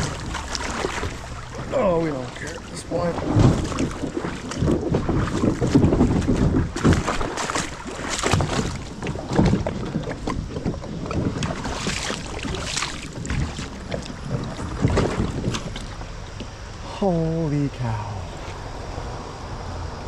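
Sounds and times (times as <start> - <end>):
kayak splashing in water: 0.0 - 16.8, 18.2 - 19.0
wind on microphone: 0.0 - 16.9.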